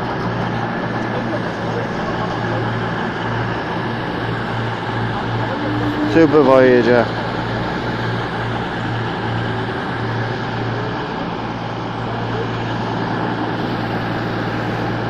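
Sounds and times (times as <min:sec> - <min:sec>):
train diesel engines humming: 0:00.0 - 0:15.0.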